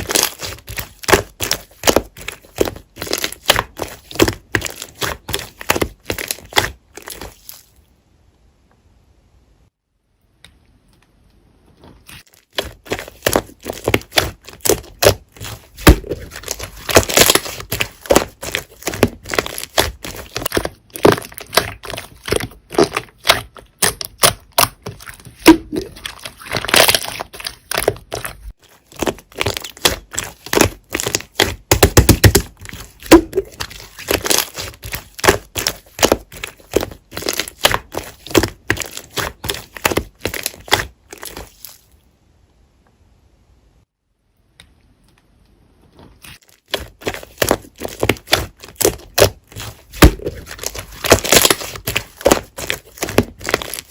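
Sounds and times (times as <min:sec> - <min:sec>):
slime crackling and popping: 0:00.0 - 0:07.7, 0:12.2 - 0:41.9, 0:46.4 - 0:53.9.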